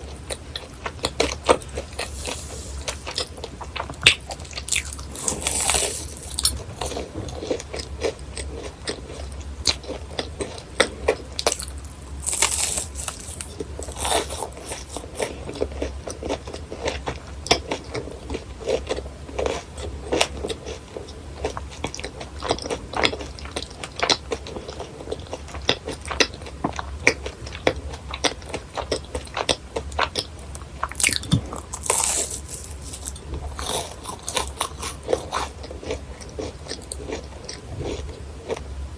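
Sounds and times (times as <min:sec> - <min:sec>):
crunchy chewing: 0:00.0 - 0:38.7.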